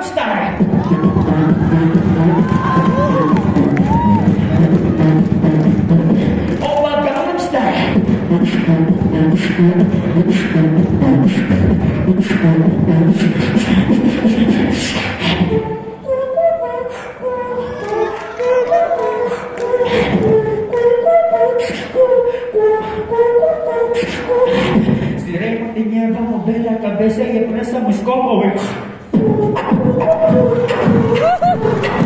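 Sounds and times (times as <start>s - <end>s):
man beatboxing into a microphone: 0.0s - 15.7s, 18.5s - 32.0s
vocal melody: 0.0s - 32.0s.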